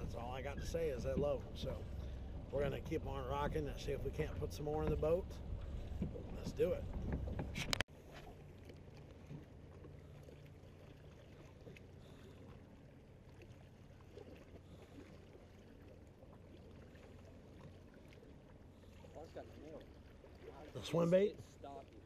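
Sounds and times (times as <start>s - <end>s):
light water sounds: 0.0s - 22.0s.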